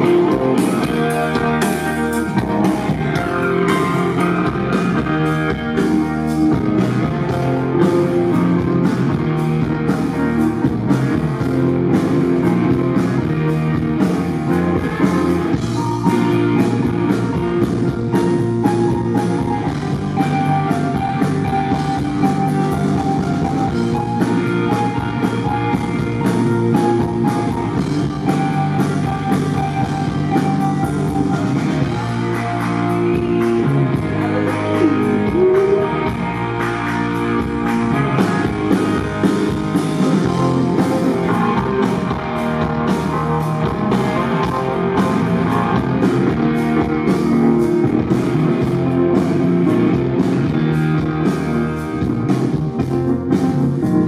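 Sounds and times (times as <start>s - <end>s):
drum kit beat: 0.0s - 54.0s
electric guitar: 0.0s - 54.0s
keyboard: 0.0s - 54.0s.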